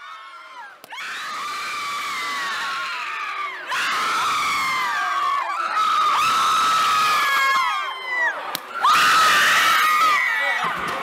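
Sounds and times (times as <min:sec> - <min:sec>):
young people screaming: 0:00.0 - 0:10.8.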